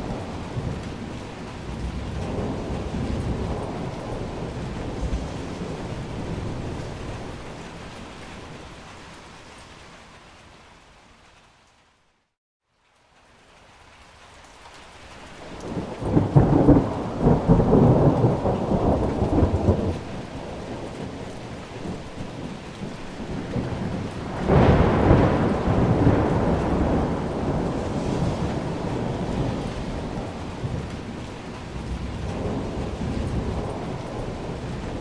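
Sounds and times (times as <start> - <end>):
thunder rolling: 0.0 - 8.7, 15.6 - 35.0
steady rain: 0.0 - 35.0.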